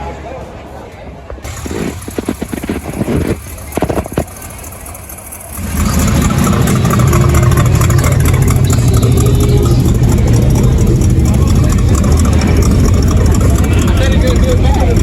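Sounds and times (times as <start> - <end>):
car engine rumbling: 1.4 - 15.0.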